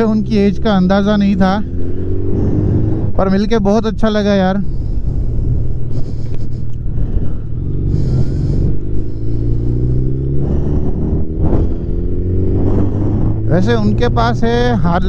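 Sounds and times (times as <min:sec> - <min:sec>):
motorcycle engine running: 0:00.0 - 0:15.0
wind and road rumble: 0:00.0 - 0:15.0.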